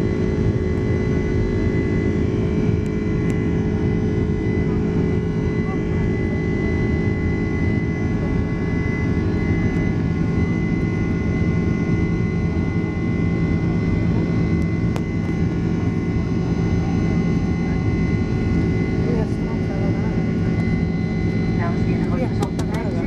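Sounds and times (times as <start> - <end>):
airliner cabin rumble: 0.0 - 23.0
steady whining tones: 0.0 - 23.0.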